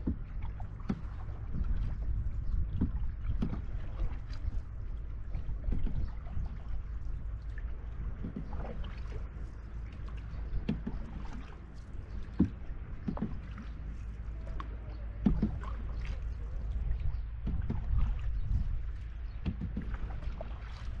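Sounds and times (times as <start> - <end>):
paddle strokes splashing: 0.0 - 21.0
steady low rumble: 0.0 - 21.0
water lapping at hull: 0.0 - 21.0.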